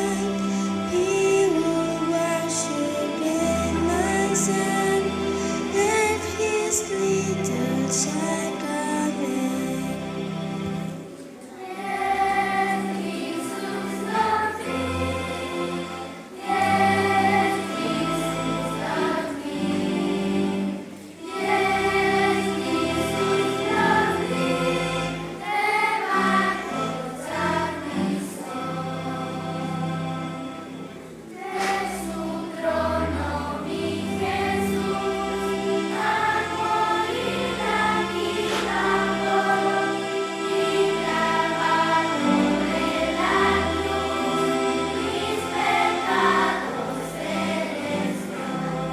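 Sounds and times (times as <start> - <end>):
choir singing: 0.0 - 48.9.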